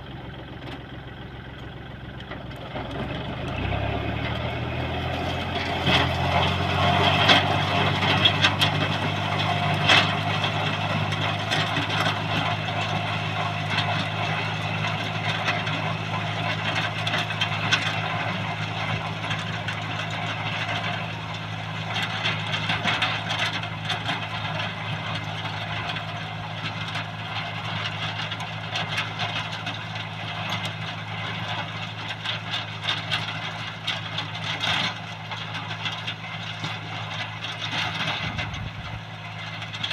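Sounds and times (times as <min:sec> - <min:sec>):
tiller clattering: 0:00.0 - 0:39.9
tractor engine hum: 0:00.0 - 0:39.9.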